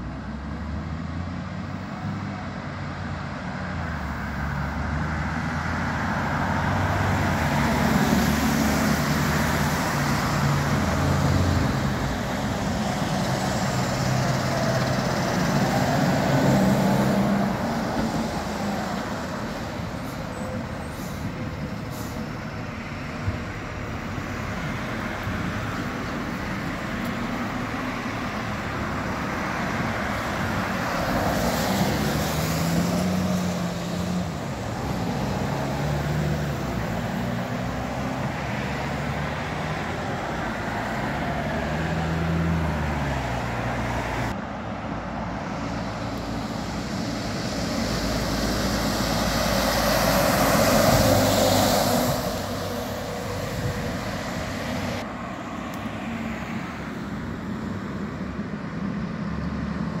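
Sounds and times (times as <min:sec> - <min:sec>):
car passing by: 0:00.0 - 0:23.2, 0:24.0 - 0:44.4, 0:45.2 - 1:00.0
road traffic: 0:00.0 - 1:00.0.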